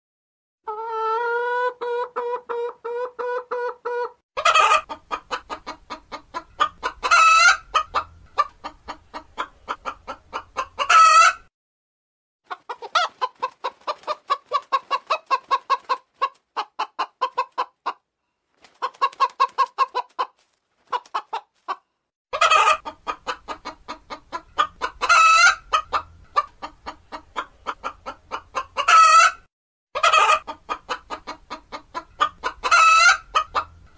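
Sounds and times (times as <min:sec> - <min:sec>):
hen clucking: 0:00.7 - 0:11.5, 0:12.5 - 0:18.1, 0:18.7 - 0:33.9.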